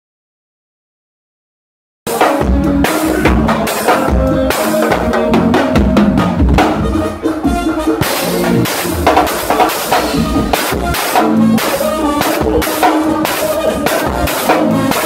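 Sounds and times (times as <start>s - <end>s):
band playing: 2.1s - 15.0s
drum kit playing: 2.1s - 15.0s.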